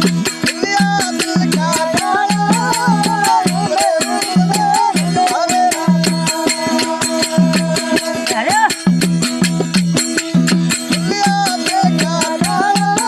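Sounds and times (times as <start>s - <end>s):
drum beat: 0.0s - 13.0s
rattling percussion: 0.0s - 13.0s.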